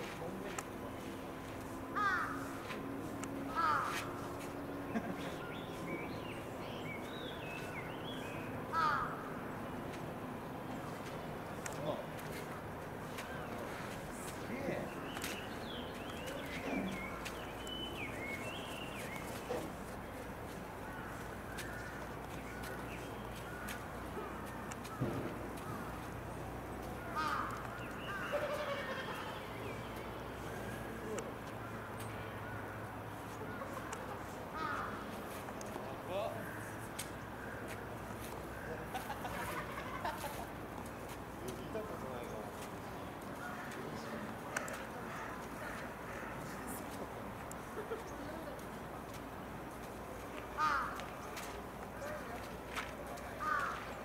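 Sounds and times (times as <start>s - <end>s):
birds high chirping: 3.6s - 9.4s, 10.4s - 48.3s.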